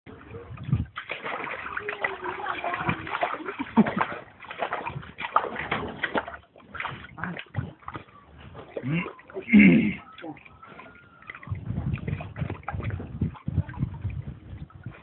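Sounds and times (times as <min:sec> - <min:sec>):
dogs splashing in pool water: 0:00.1 - 0:15.0.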